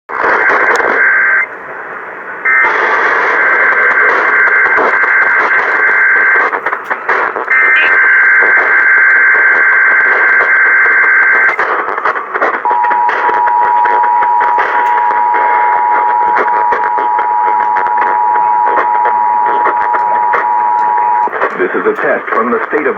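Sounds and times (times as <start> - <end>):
radio noise: 0.1 - 1.5, 2.5 - 22.9
buzzy digital data tones: 2.5 - 22.9.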